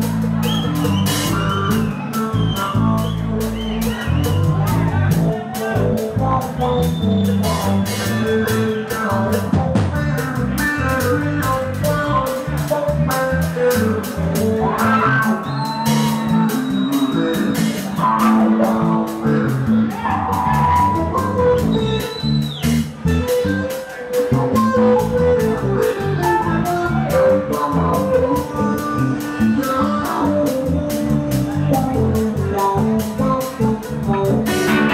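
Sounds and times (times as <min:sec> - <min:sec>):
electric guitars: 0:00.0 - 0:34.9
live rock band: 0:00.0 - 0:34.9
steady drum beat: 0:00.0 - 0:34.9.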